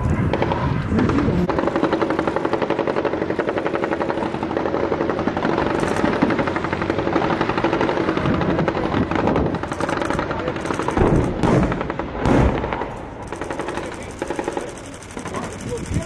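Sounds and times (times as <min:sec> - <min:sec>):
vehicle engines running: 0:00.0 - 0:16.0
rapid machine gun fire: 0:00.2 - 0:16.0.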